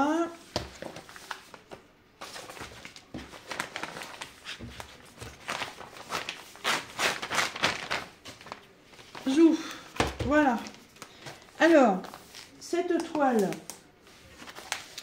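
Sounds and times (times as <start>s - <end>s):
plastic packaging crinkling: 0.6s - 9.9s, 10.5s - 15.0s.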